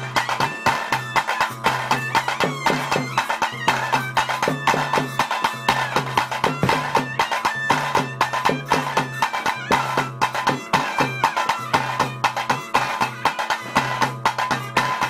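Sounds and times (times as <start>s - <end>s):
drums beating quick rhythm: 0.0s - 15.0s
reed pipe melody: 0.0s - 15.0s.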